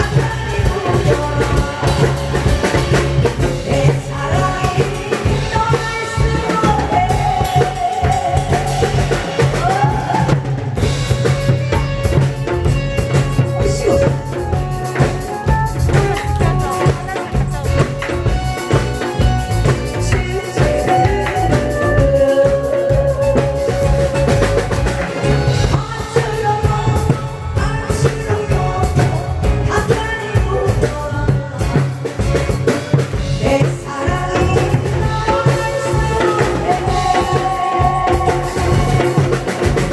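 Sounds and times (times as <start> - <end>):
upbeat music with drum beat: 0.0 - 39.9.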